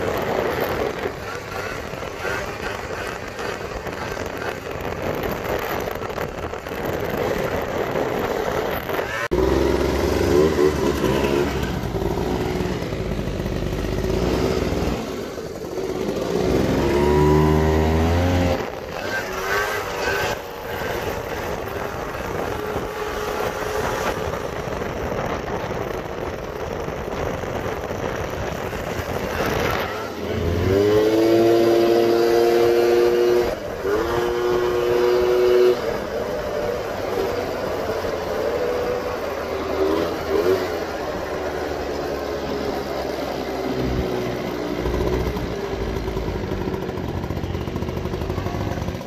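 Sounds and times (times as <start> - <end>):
two-stroke scooter engines: 0.0 - 49.0.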